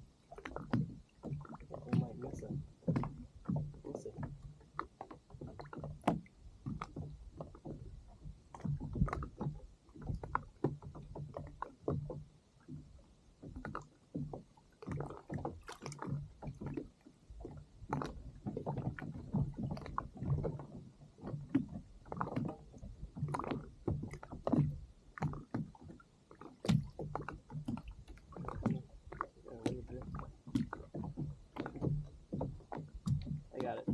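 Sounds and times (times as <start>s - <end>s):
waves slapping against kayak hull: 0.0s - 33.9s.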